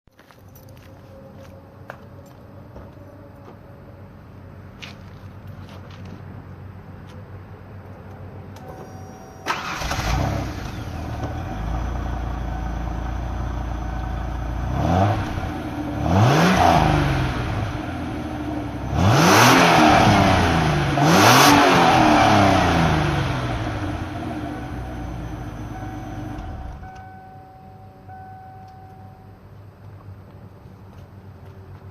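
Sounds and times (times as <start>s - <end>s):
car engine idling and revving: 0.2s - 27.5s.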